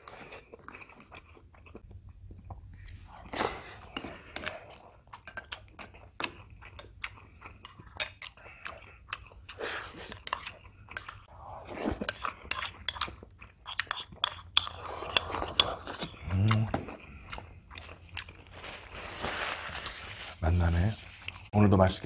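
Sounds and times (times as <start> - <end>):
chewing and wet mouth sounds: 0.0 - 19.1.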